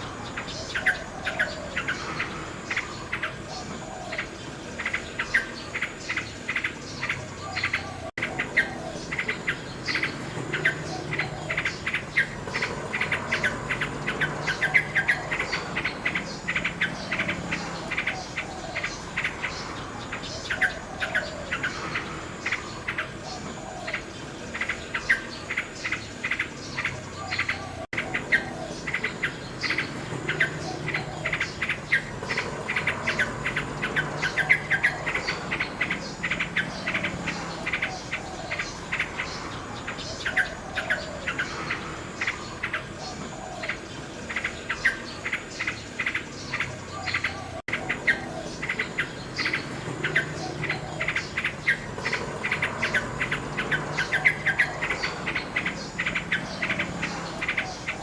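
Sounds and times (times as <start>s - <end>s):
nightingale singing: 0.0s - 58.0s.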